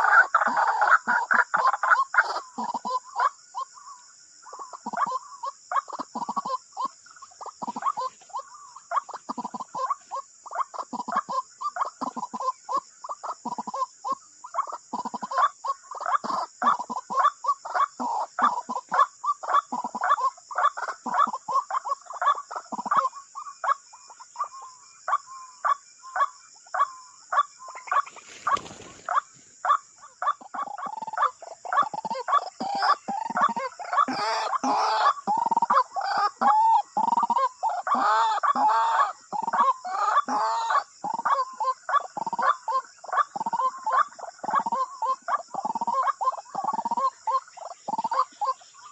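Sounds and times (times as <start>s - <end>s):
waterhens croaking calls: 0.0s - 48.9s.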